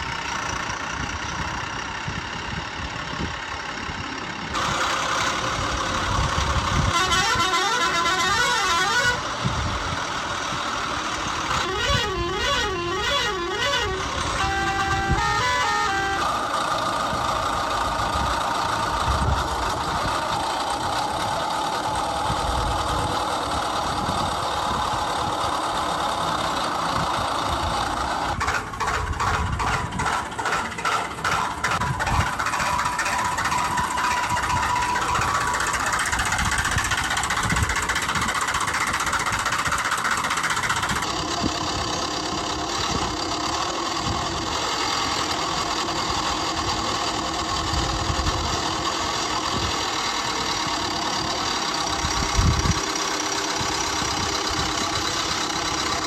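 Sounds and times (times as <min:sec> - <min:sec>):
vehicle engine rumbling: 0:00.0 - 0:56.0.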